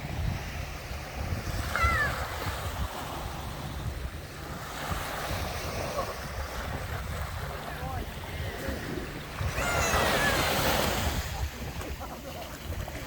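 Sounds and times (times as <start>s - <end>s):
sea waves washing onto shore: 0.0s - 13.0s
wind buffeting microphone: 0.0s - 13.0s.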